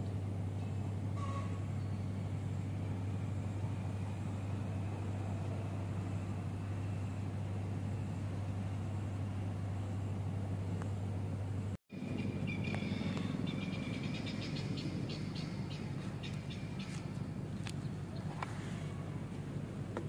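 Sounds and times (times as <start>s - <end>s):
faint outdoor background noise: 0.0s - 20.0s
low machine hum: 0.0s - 20.0s.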